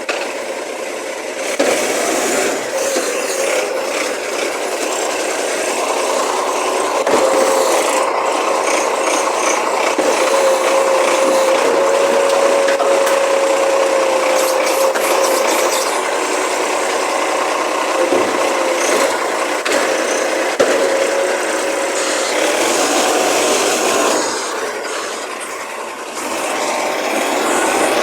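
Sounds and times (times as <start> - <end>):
garbage truck scraping and grinding: 0.0 - 28.0
hydraulic whine: 0.0 - 28.0.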